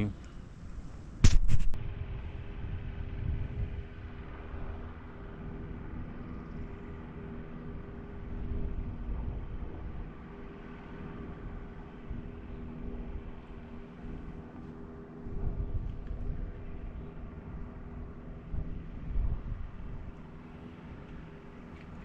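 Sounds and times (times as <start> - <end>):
motor hum: 0.0 - 22.0
wind buffeting microphone: 0.6 - 22.0.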